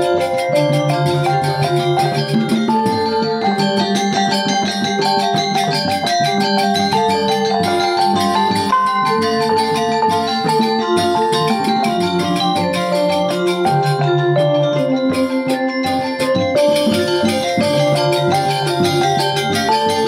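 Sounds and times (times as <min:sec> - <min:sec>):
instrumental music: 0:00.0 - 0:20.0.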